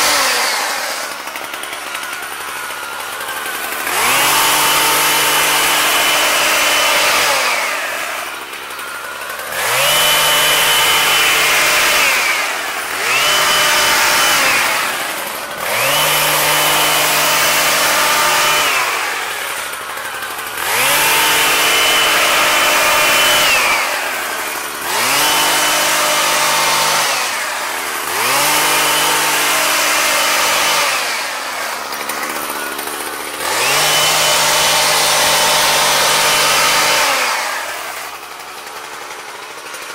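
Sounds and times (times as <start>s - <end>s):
hedge trimmer engine revving: 0.0s - 39.9s.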